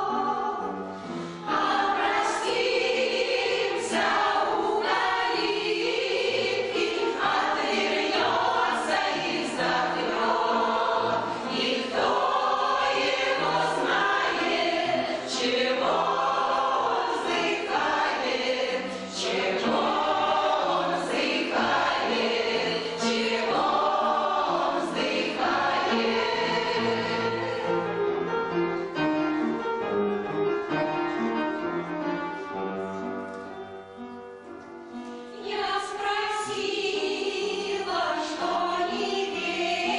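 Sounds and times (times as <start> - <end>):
choir singing: 0.0 - 28.6, 35.3 - 39.9
instrumental accompaniment: 0.1 - 37.2.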